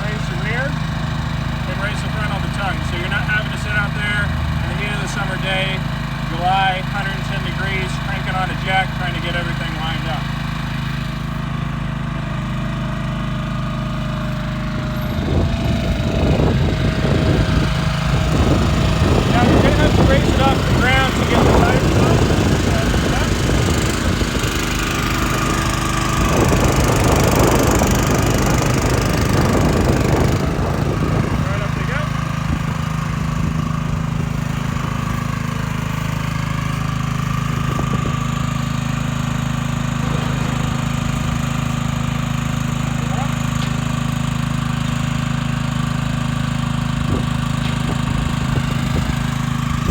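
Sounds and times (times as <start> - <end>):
small gasoline engine running: 0.0 - 49.9.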